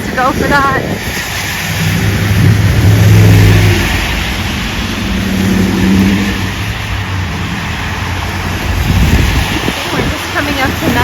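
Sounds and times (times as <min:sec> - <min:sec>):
tyres hissing on wet road: 0:00.0 - 0:11.0
vehicle engine passing: 0:01.0 - 0:11.0.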